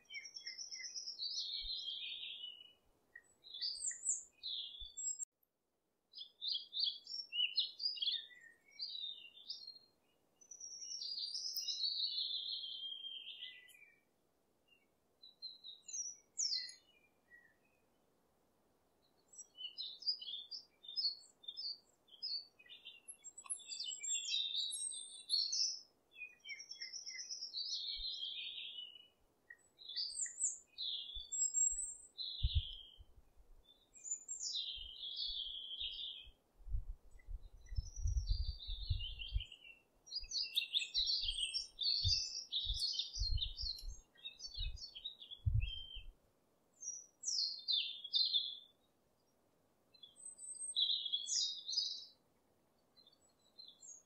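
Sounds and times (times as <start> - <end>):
songbirds chirping and singing: 0.0 - 5.3, 6.1 - 14.0, 14.7 - 17.8, 19.1 - 36.4, 37.1 - 46.2, 46.8 - 48.9, 50.0 - 52.2, 53.0 - 54.0.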